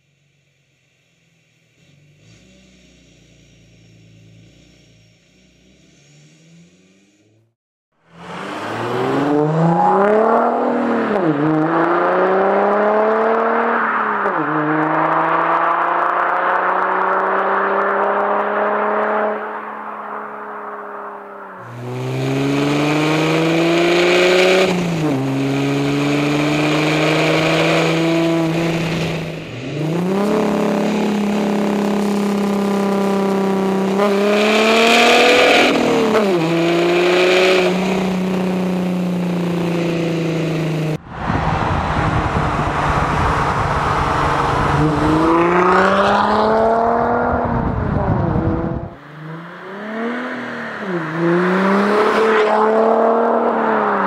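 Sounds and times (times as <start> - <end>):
diesel engine revving: 0.0 - 20.5, 21.2 - 54.0.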